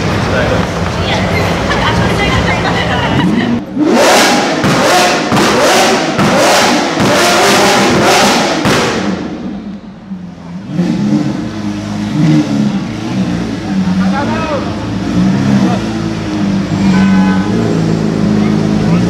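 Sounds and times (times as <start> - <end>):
sports car engine revving: 3.1 - 19.0.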